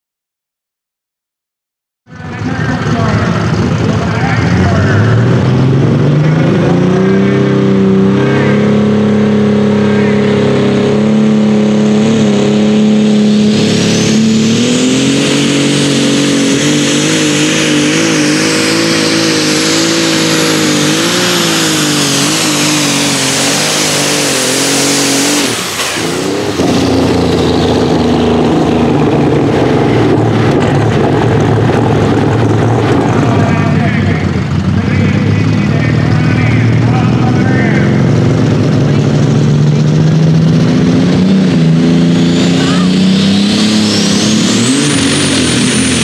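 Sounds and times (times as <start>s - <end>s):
rough engine noise: 2.0s - 46.0s
tractor engine at full throttle: 2.0s - 46.0s.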